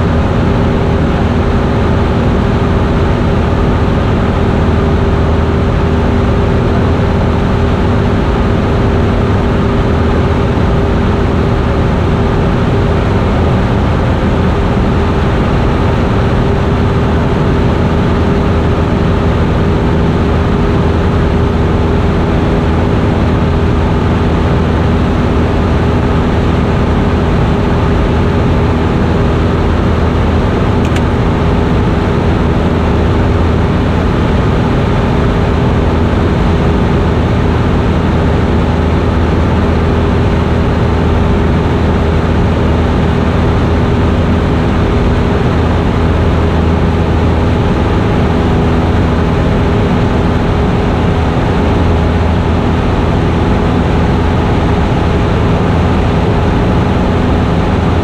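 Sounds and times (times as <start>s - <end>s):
propeller plane engine droning: 0.0s - 58.0s.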